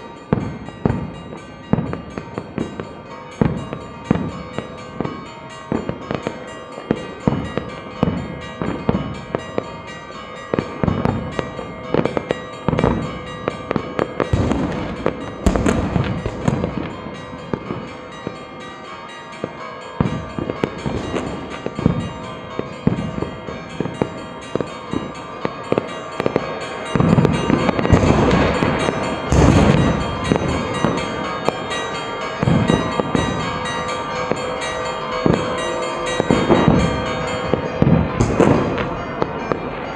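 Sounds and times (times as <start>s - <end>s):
church bells ringing: 0.0s - 39.9s
fireworks and firecrackers banging: 0.0s - 39.9s.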